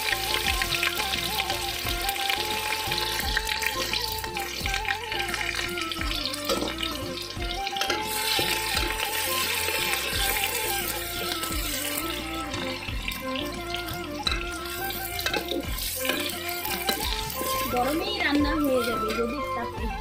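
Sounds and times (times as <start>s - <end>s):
background music with a beat: 0.0s - 20.0s
onions sizzling in hot oil: 0.0s - 20.0s.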